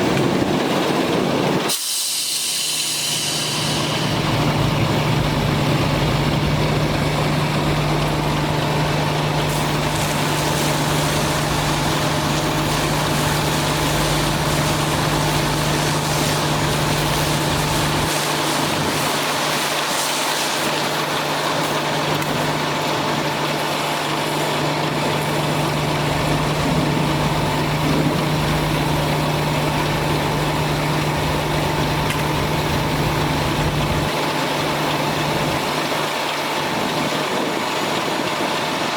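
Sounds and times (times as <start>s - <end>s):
diesel engine running: 2.4s - 38.9s.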